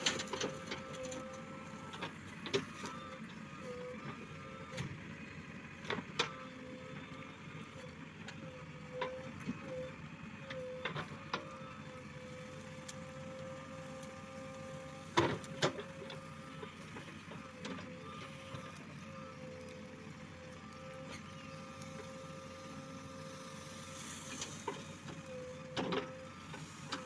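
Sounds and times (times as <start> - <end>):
diesel engine and hydraulics whine: 0.0 - 27.0.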